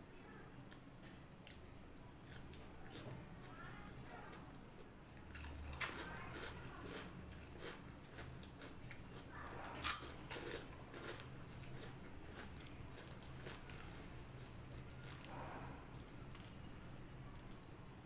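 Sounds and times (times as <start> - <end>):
person chewing food: 0.7 - 17.9.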